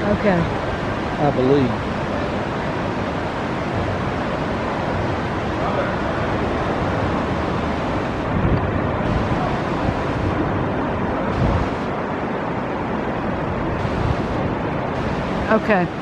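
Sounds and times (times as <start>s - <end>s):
river rapids rushing: 0.0s - 16.0s
wind buffeting microphone: 0.0s - 16.0s.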